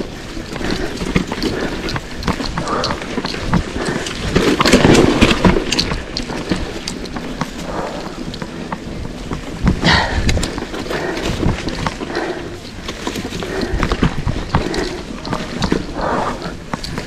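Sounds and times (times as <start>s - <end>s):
bike clicks and rattles: 0.0s - 17.0s
wind rumbling on microphone: 0.0s - 17.0s.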